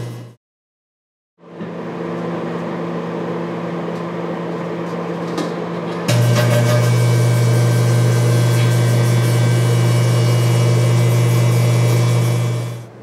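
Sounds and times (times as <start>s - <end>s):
microwave oven humming: 0.0s - 0.4s, 1.4s - 13.0s
microwave fan rushing: 1.4s - 13.0s.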